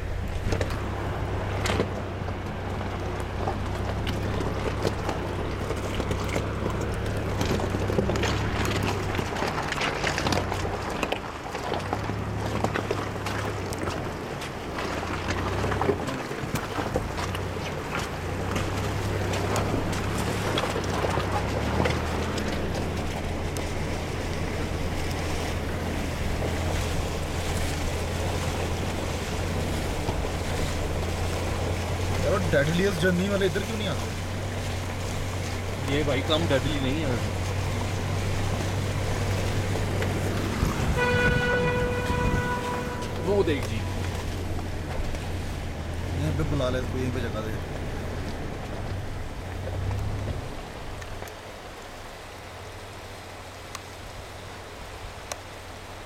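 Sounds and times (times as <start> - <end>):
tyres crunching on stones: 0.0 - 51.5
low engine hum: 0.0 - 56.0.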